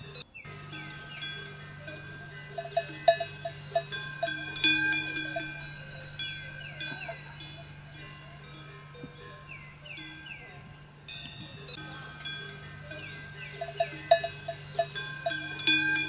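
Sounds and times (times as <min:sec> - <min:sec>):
bells clanking: 0:00.0 - 0:16.0.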